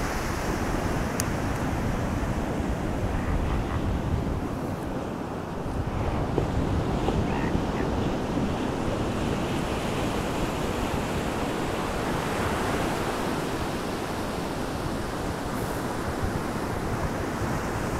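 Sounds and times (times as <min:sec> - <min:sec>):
ocean surf rushing: 0:00.0 - 0:17.9
wind noise on microphone: 0:00.0 - 0:17.9.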